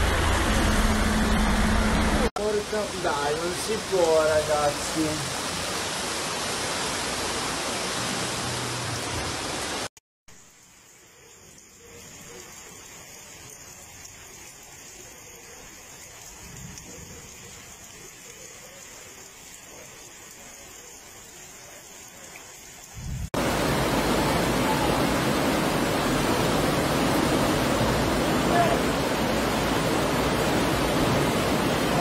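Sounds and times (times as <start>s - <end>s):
flood torrent rushing down street: 0.0s - 9.9s, 10.9s - 32.0s
rain hissing: 0.0s - 32.0s.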